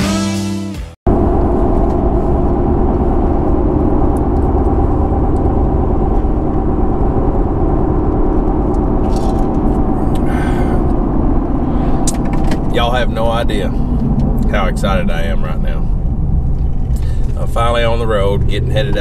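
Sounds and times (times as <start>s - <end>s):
road rumble: 1.1s - 19.0s
vehicle engine hum: 1.1s - 19.0s.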